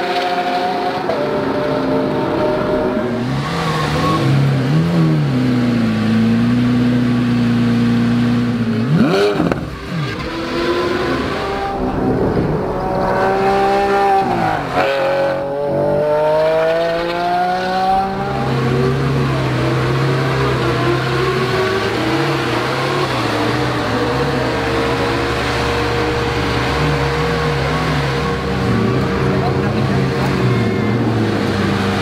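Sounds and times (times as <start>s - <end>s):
sports car engine revving: 0.0s - 32.0s.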